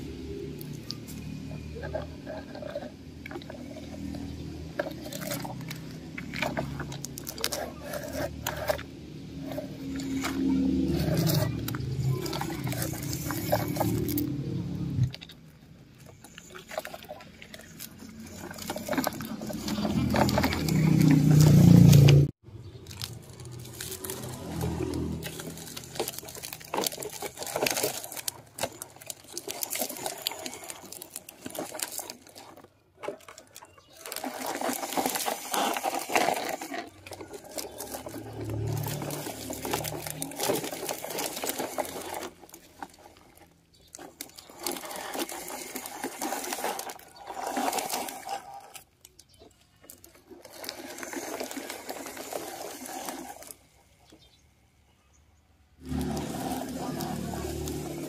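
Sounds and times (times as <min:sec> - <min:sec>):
toy truck wheels rattling on plastic: 0:00.0 - 0:54.5, 0:55.8 - 0:58.0.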